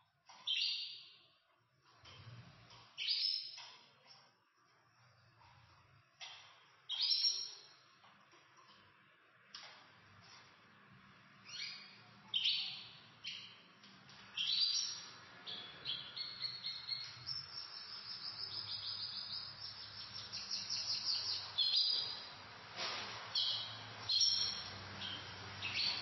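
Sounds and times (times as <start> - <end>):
canaries singing: 0.2 - 26.0.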